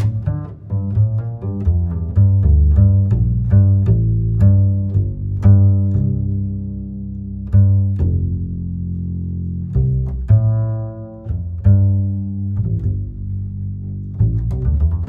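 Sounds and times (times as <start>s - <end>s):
slow deep string notes: 0.0s - 15.0s.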